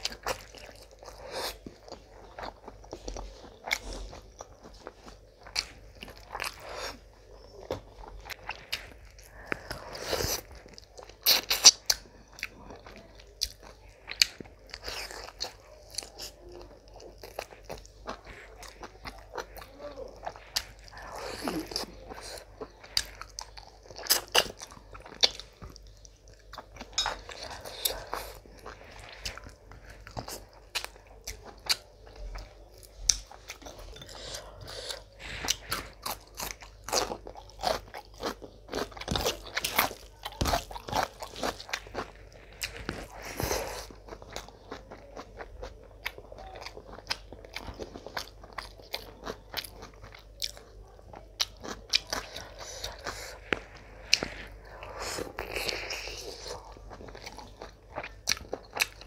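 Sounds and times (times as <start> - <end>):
person chewing rice: 0.0 - 59.0.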